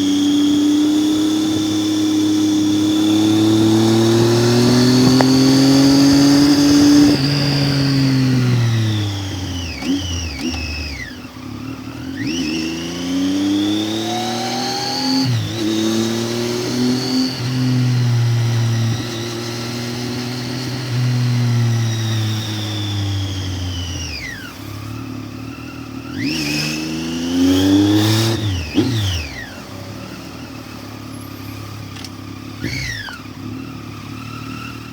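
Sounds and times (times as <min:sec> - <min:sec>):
motorcycle engine: 0:00.0 - 0:34.9.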